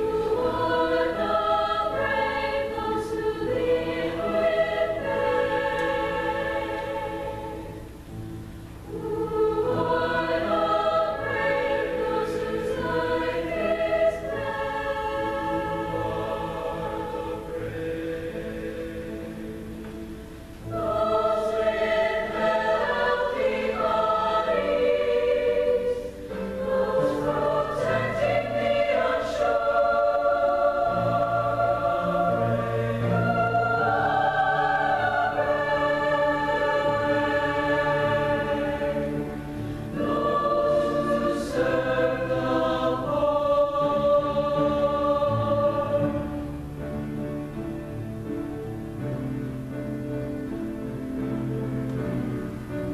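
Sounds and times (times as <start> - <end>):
choir singing held chords: 0.0 - 52.9.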